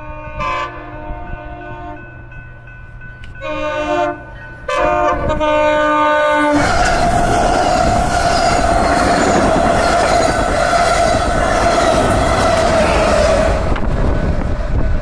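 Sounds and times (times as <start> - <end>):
train wheels rumbling: 0.0 - 15.0
train whine: 0.0 - 15.0.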